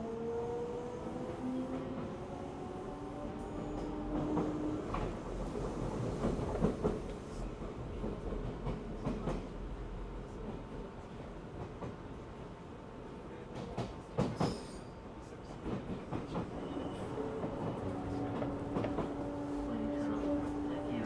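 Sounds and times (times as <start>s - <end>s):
train wheels rumbling on rail: 0.5s - 12.6s, 13.3s - 21.0s.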